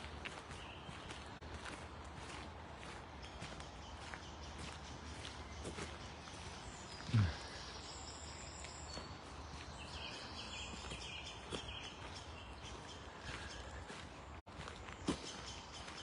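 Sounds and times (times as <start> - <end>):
birds chirping faintly: 0.0 - 16.0
footsteps on path: 0.0 - 16.0.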